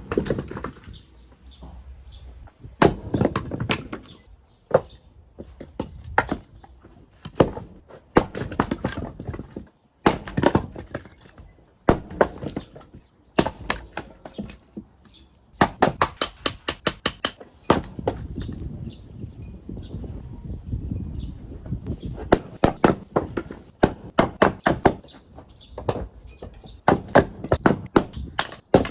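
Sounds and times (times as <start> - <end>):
axe splitting firewood: 0.0 - 1.1, 2.6 - 18.7, 22.0 - 28.9.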